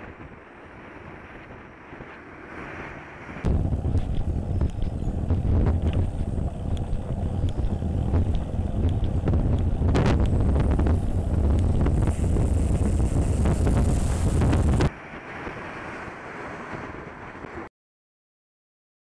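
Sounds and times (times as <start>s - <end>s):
lorry road rumble: 0.0s - 17.7s
wind buffeting microphone: 0.0s - 17.7s.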